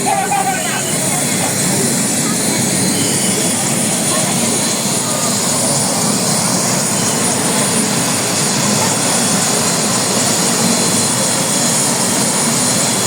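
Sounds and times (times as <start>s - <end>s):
thin high whine: 0.0s - 11.4s
helicopter engine and rotor noise: 0.0s - 13.0s.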